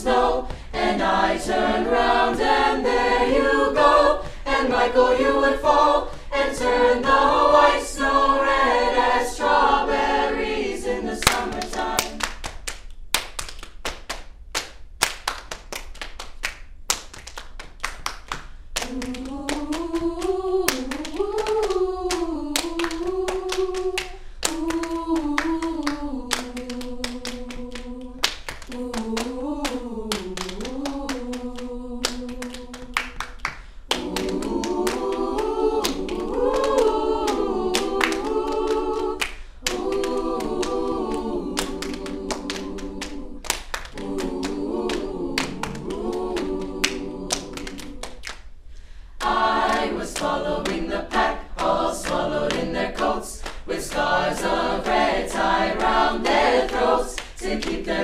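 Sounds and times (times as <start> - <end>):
choir singing a cappella: 0.0 - 12.6, 18.8 - 58.0
rhythmic hand clapping: 0.0 - 48.6, 49.2 - 58.0.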